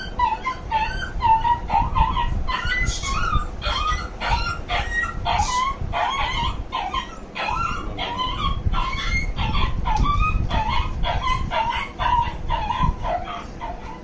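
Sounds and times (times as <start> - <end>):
dog whining: 0.0 - 14.0.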